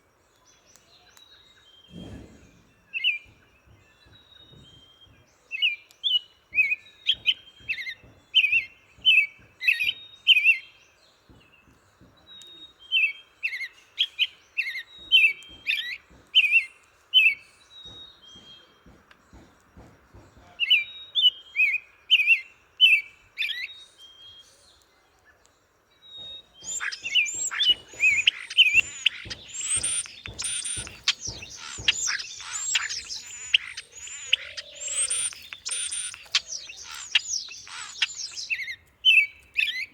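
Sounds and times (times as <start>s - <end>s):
chorus of chirping birds: 0.0s - 39.9s
songbird singing: 0.0s - 39.9s.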